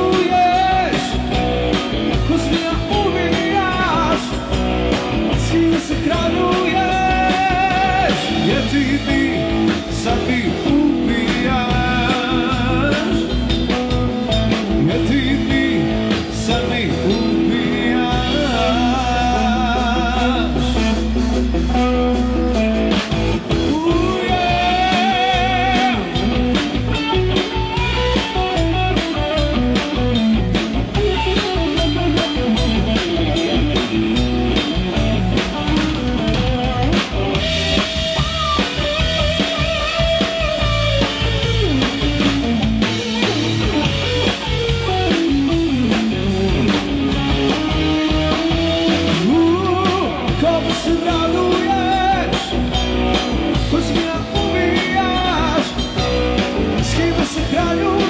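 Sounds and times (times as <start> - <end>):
bass guitar: 0.0 - 58.0
drum kit beat: 0.0 - 58.0
lead guitar: 0.0 - 58.0.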